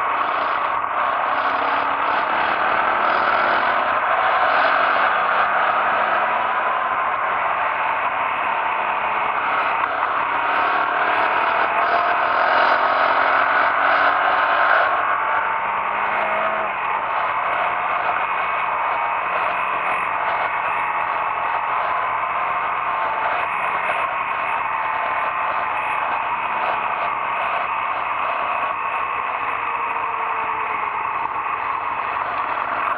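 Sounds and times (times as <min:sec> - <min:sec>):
muffled motorcycle engine: 0:00.0 - 0:32.9.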